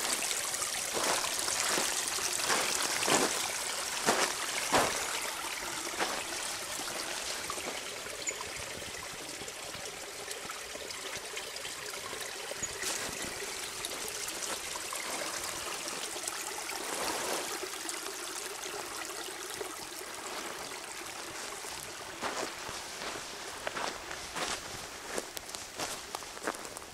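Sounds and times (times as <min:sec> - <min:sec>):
creek trickling over gravel: 0:00.0 - 0:26.9.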